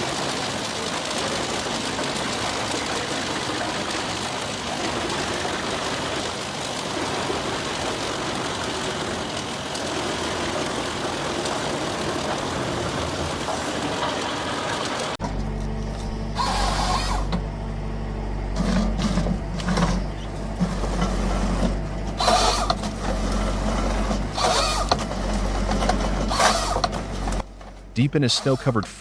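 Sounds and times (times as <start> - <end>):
wood chipper engine drone: 0.0 - 29.0
wood chipper grinding: 0.0 - 29.0.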